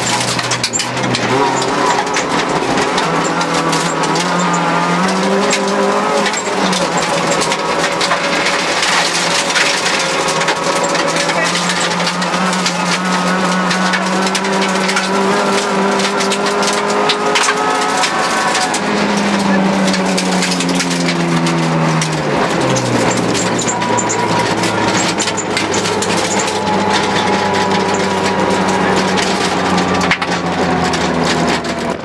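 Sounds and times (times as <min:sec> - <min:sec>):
car engine revving: 0:00.0 - 0:32.0
gravel striking car: 0:00.0 - 0:32.0.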